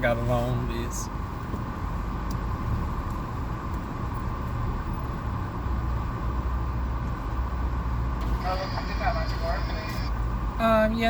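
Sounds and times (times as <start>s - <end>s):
car engine idling: 1.2s - 11.0s.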